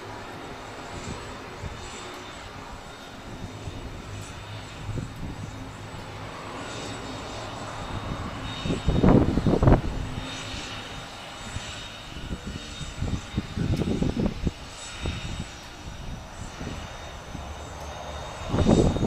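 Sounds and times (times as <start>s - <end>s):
distant turboprop engines humming: 0.0s - 19.0s.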